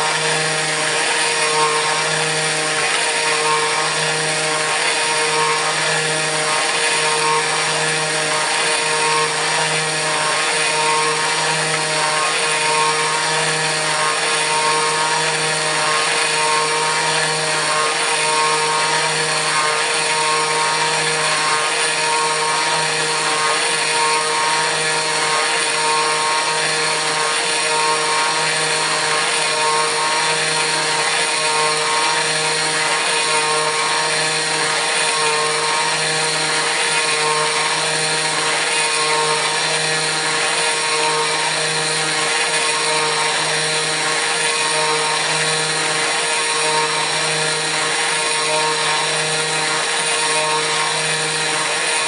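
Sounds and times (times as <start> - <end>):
router spindle whining: 0.0 - 52.0.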